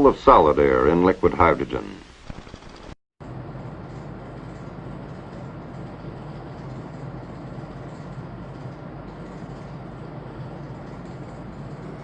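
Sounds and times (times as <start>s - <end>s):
film soundtrack hum and hiss: 0.0s - 12.0s.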